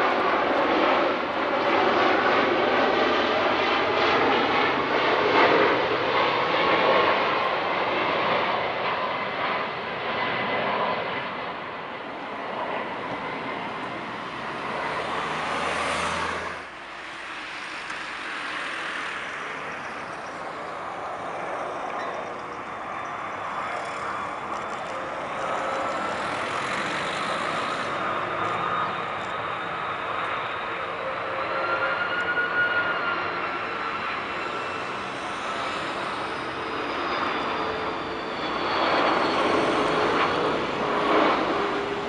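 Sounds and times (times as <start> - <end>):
distant airliner rush: 0.0 - 42.0
jet engines on landing approach: 0.0 - 42.0.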